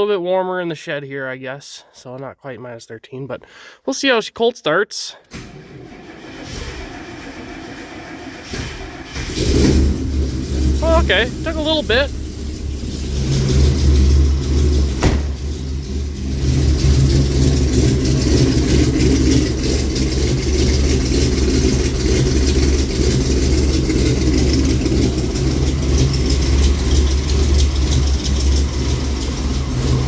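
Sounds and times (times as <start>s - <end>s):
car engine idling: 5.8s - 30.0s.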